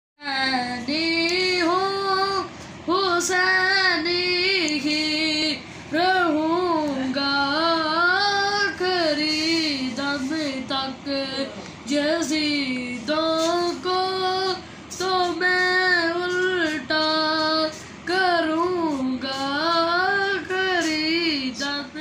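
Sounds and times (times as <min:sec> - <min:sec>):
boy singing unaccompanied: 0:00.2 - 0:22.0.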